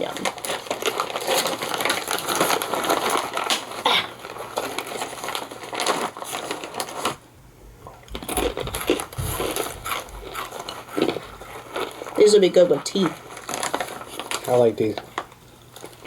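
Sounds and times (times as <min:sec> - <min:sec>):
crisp bag crinkling: 0:00.0 - 0:07.3, 0:07.9 - 0:16.0
crunching crisps: 0:00.0 - 0:07.3, 0:08.1 - 0:16.0.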